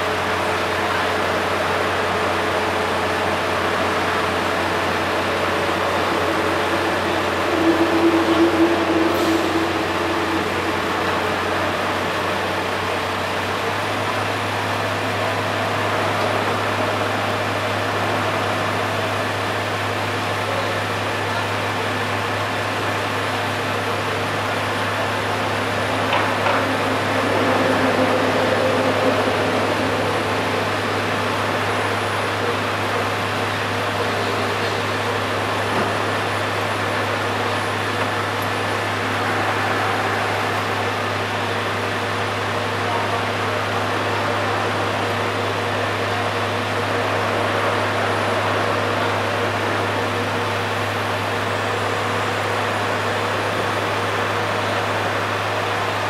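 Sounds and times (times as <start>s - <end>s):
diesel engine running: 0.0s - 56.0s
street traffic noise: 0.0s - 56.0s.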